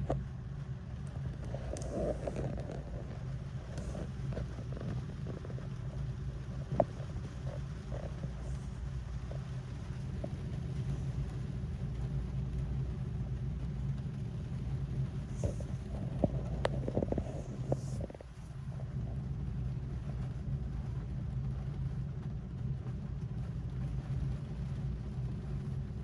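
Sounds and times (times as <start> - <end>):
rain drumming on a car: 0.0 - 26.0.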